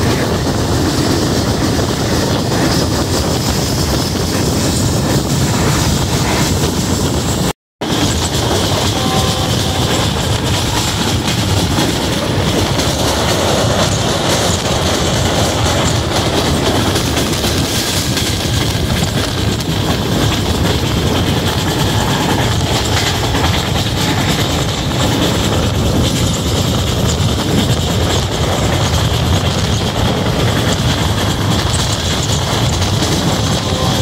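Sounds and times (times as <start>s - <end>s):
train wheels running on rails: 0.0s - 34.0s.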